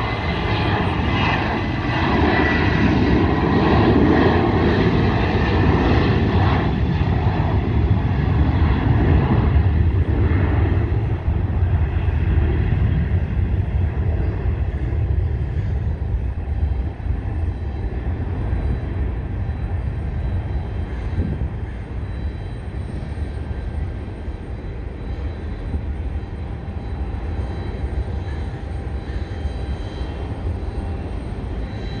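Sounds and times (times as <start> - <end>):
jet engines at takeoff: 0.0 - 32.0.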